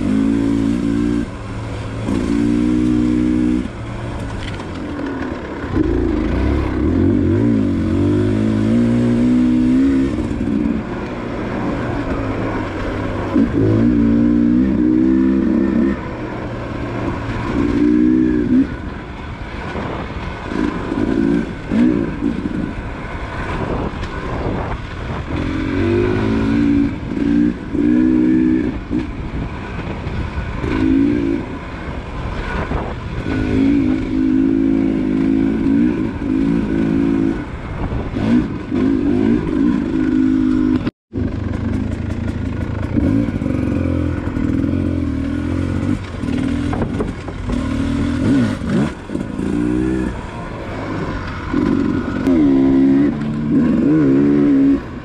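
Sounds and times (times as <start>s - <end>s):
dirt bike engine revving: 0.0s - 4.1s, 5.7s - 19.0s, 24.4s - 29.1s, 30.3s - 31.7s, 32.3s - 37.5s, 38.1s - 55.0s.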